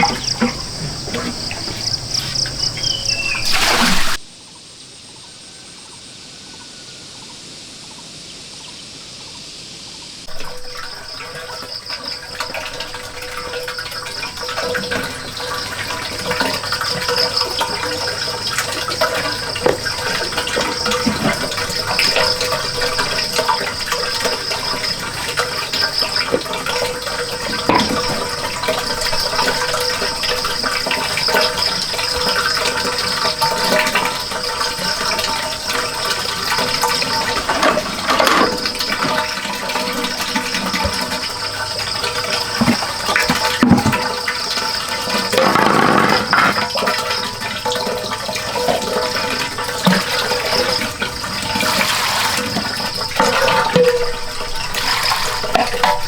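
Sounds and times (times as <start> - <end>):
short splashes and knocks: 0.0 - 4.3, 10.3 - 56.0
running water rushing: 0.0 - 4.4, 10.3 - 56.0.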